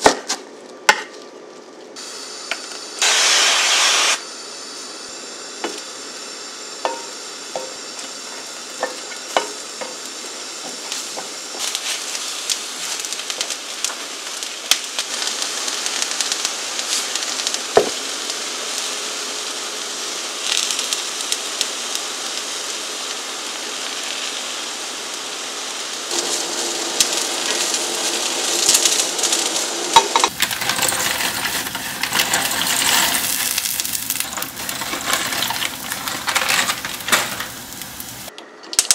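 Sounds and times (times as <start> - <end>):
oil sizzling: 2.0 - 38.3
water boiling in saucepan: 5.6 - 38.3.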